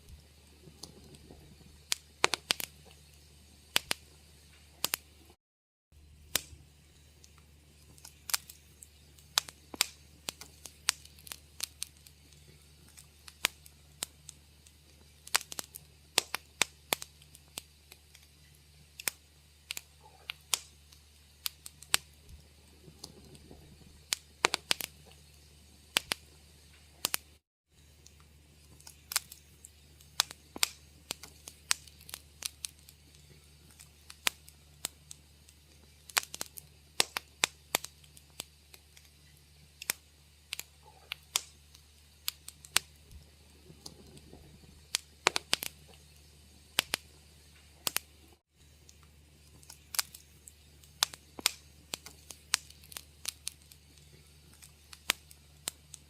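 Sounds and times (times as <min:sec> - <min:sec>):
low steady hum: 0:00.0 - 0:05.4, 0:06.0 - 0:56.0
wood fire crackling: 0:00.0 - 0:05.4, 0:06.0 - 0:56.0.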